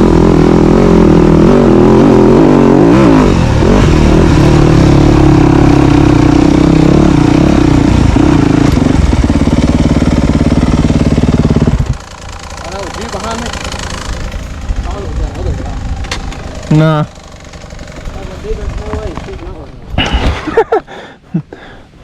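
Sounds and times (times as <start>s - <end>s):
dirt bike engine running: 0.0s - 20.8s.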